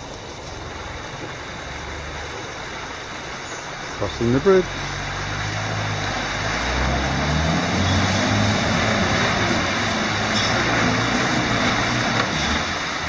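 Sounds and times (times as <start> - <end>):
rushing water hiss: 0.0 - 13.0
truck engine climbing: 0.0 - 13.0.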